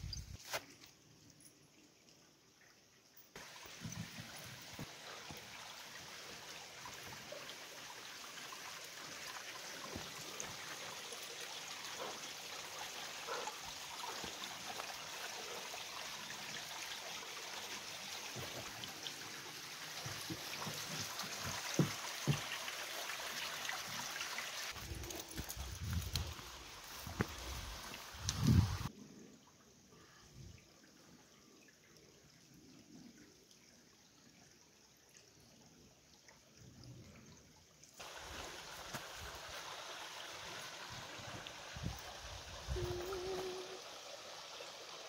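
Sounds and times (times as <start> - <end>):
forest stream trickling: 0.0 - 45.0.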